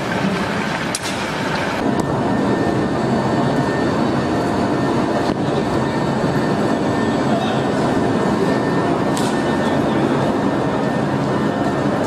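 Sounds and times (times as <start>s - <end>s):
heavy machinery rumble: 0.0s - 12.0s.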